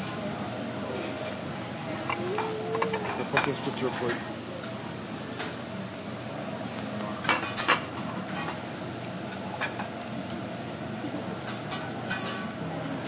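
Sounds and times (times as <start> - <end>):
vegetables sizzling on griddle: 0.0 - 13.0.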